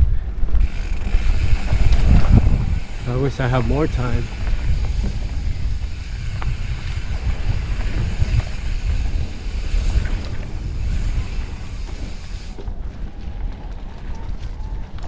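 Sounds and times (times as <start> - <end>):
bike tyres on packed dirt: 0.0 - 15.0
wind buffeting microphone: 0.0 - 15.0.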